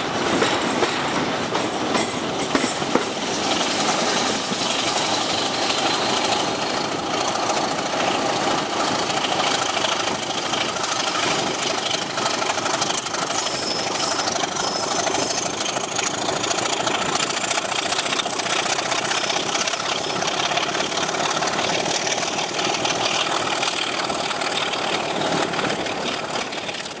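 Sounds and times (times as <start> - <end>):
diesel locomotive engine running: 0.0 - 27.0
train wheels on track: 0.0 - 27.0.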